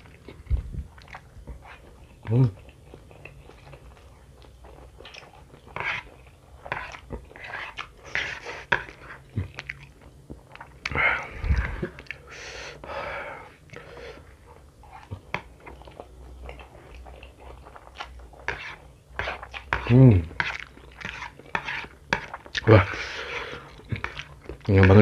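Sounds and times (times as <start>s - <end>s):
person slurping and chewing noodles: 0.0s - 25.0s.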